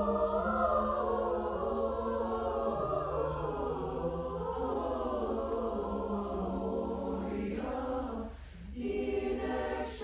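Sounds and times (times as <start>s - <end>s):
chamber choir singing: 0.0s - 10.0s.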